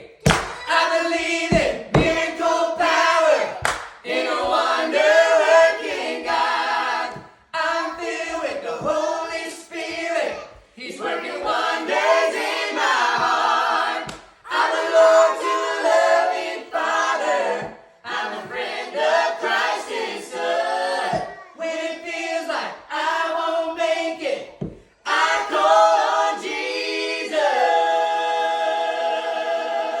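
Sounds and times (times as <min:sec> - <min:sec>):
group singing a cappella gospel: 0:00.0 - 0:30.0.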